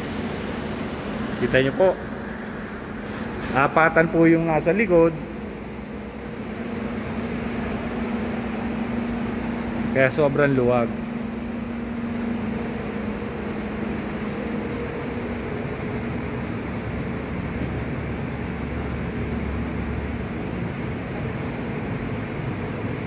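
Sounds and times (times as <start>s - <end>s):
air conditioning hum and rush: 0.0s - 23.0s
steady humming tone: 0.0s - 23.0s.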